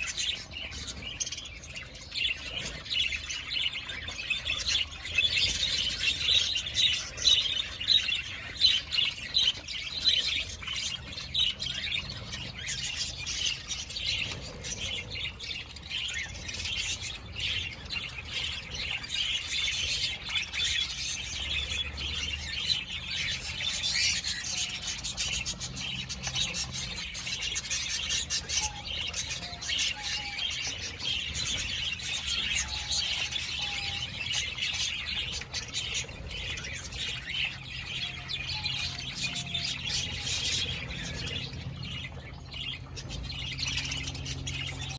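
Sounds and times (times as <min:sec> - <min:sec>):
parakeets chirping and chattering: 0:00.0 - 0:44.9.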